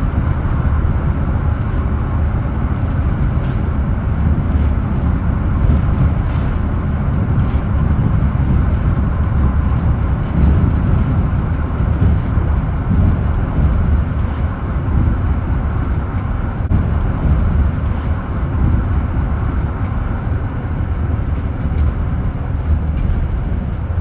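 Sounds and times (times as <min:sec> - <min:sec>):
bus engine rumble: 0:00.0 - 0:24.0.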